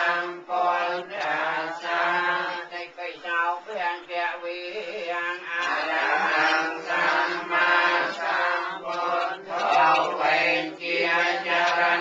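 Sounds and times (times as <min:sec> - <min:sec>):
voices chanting together: 0:00.0 - 0:12.0.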